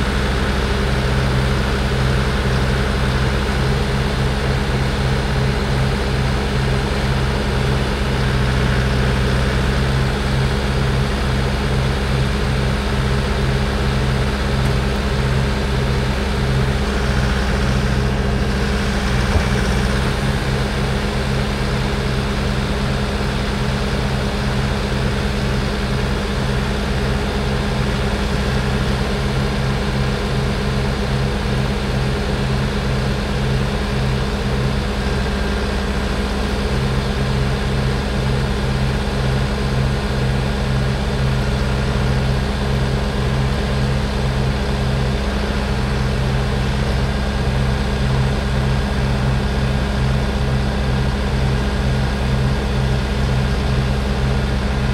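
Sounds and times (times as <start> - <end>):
truck diesel engine running: 0.0 - 54.9.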